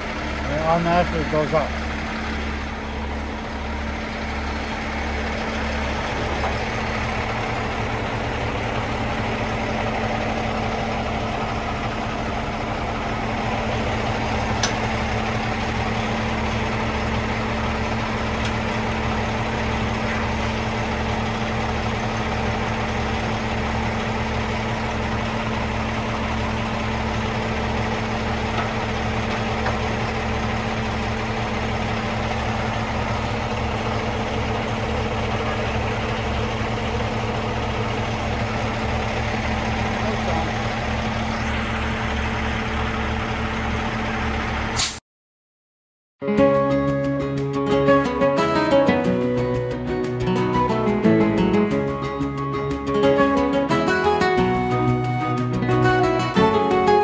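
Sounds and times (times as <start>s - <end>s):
heavy machinery humming: 0.0s - 44.9s, 46.4s - 57.0s.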